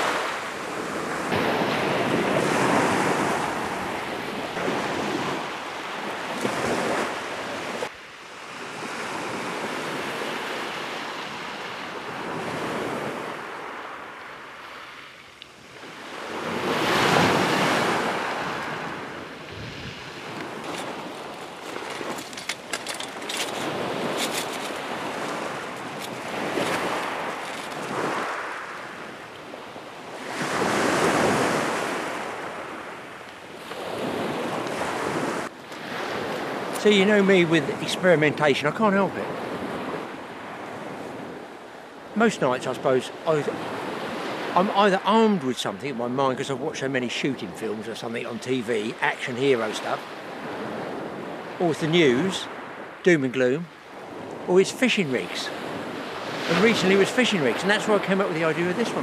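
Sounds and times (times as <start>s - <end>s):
waves breaking on shingle beach: 0.0s - 59.0s.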